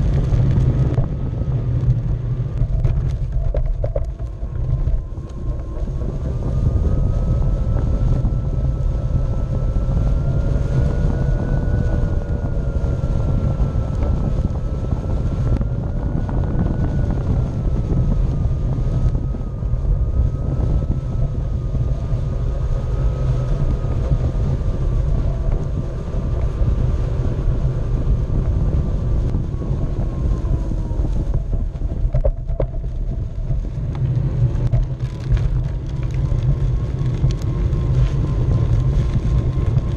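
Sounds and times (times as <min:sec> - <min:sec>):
electric motor whine: 0:00.0 - 0:39.9
wind rumble on microphone: 0:00.0 - 0:39.9.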